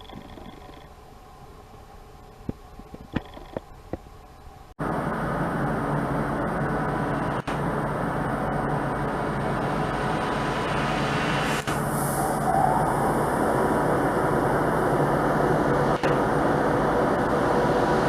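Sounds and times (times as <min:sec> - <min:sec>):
train running with low hum: 0:00.0 - 0:18.0.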